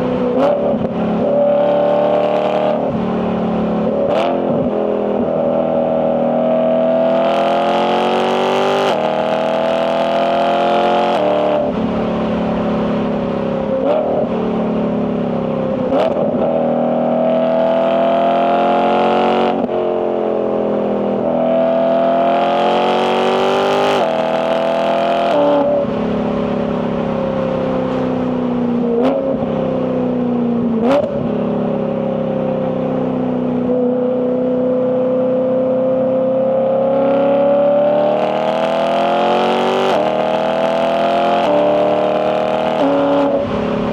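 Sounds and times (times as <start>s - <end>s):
car engine and exhaust revving: 0.0s - 43.9s.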